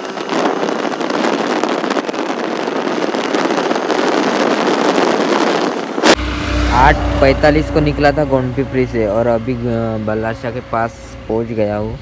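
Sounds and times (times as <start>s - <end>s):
motorcycle road noise: 0.0s - 12.0s
wind rushing over microphone: 0.0s - 12.0s.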